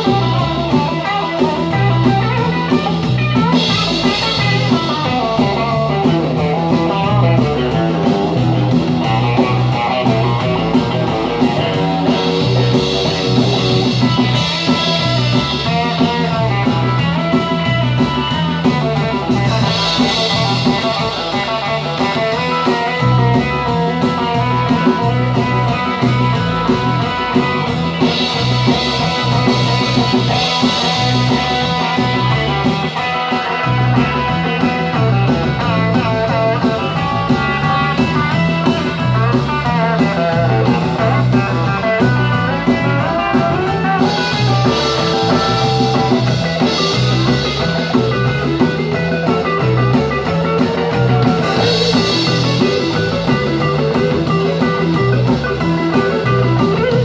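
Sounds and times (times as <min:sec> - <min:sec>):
drum kit with cymbals: 0:00.0 - 0:57.0
electric bass: 0:00.0 - 0:57.0
electric guitar: 0:00.0 - 0:57.0.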